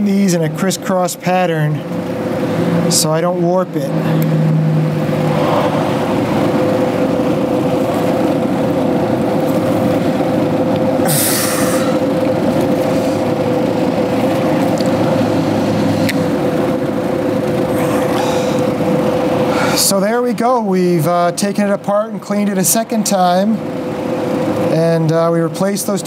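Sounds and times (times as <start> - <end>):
machine droning: 0.0 - 26.0.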